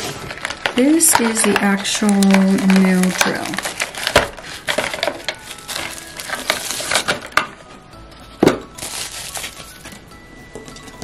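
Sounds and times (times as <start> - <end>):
faint background music: 0.0 - 11.0
plastic packaging rustling: 0.0 - 11.0.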